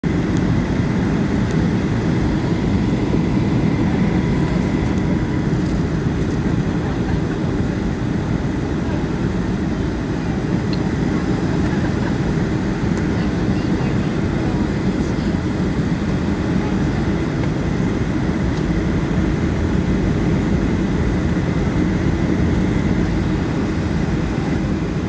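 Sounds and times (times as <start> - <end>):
airliner cabin roar: 0.0 - 25.0.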